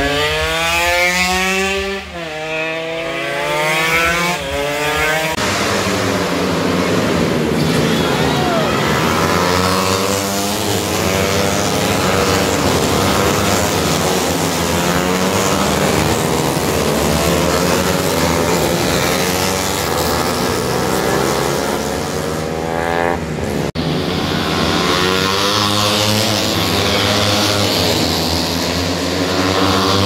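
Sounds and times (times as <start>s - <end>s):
racing motorcycles revving: 0.0s - 30.0s.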